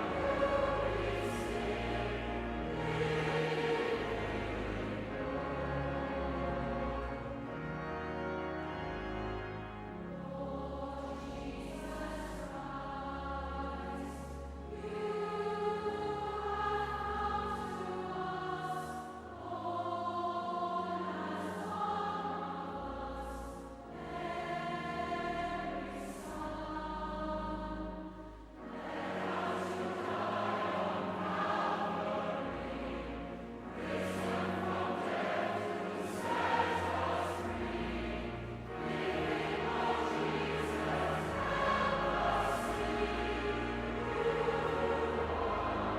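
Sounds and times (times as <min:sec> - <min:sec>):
choir singing sustained chords: 0:00.0 - 0:45.9.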